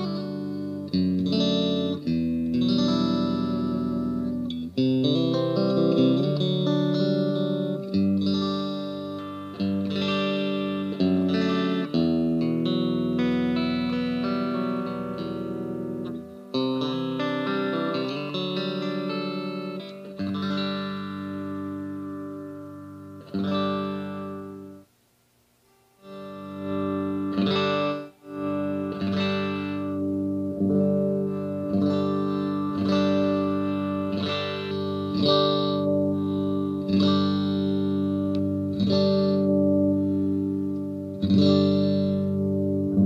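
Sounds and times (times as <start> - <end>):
electric guitar chords ringing: 0.0 - 24.9, 25.6 - 43.0.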